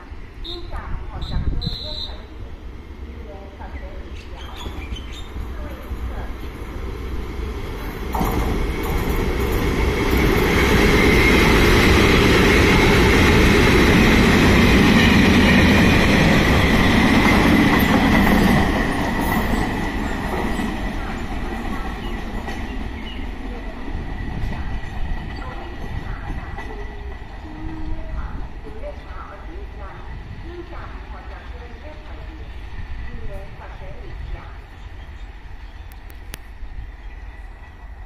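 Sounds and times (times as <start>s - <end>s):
freight train passing with whine: 0.0s - 38.0s.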